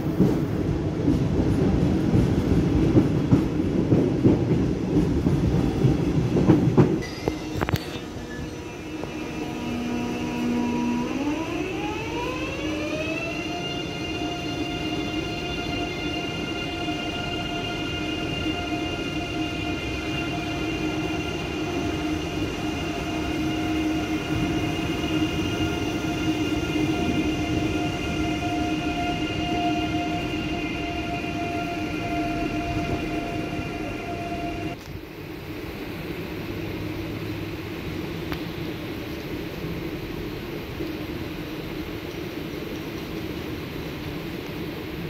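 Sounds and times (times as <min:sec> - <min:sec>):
train rumble: 0:00.0 - 0:45.0
electric train whine: 0:04.7 - 0:45.0.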